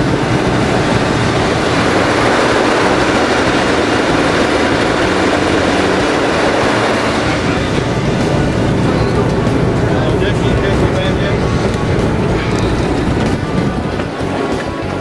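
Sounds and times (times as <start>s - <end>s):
large diesel engine running: 0.0s - 15.0s.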